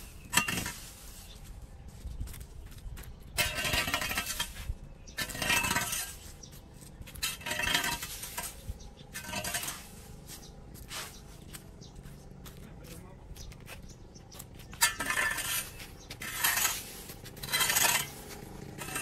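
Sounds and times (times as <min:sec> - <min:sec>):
rake scraping leaves on concrete: 0:00.0 - 0:02.4, 0:03.3 - 0:11.9, 0:13.8 - 0:19.0.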